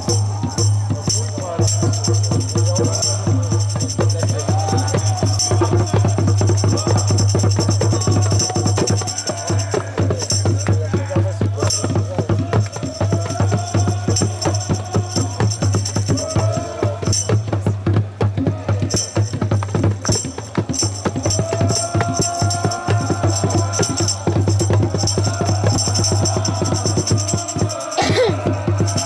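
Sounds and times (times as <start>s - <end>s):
drums and tambourine beat: 0.0s - 29.0s.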